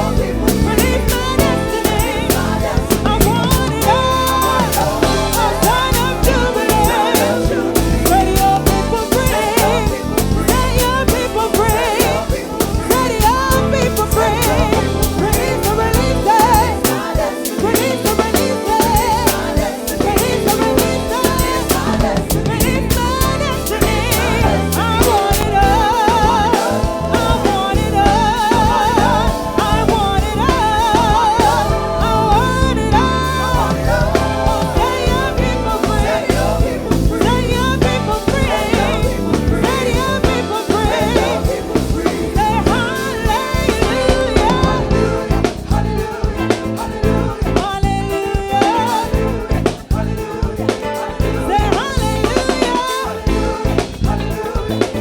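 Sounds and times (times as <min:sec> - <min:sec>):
band playing worship song: 0:00.0 - 0:55.0
drum kit beat: 0:00.0 - 0:55.0
lead singer with vibrato: 0:00.0 - 0:55.0.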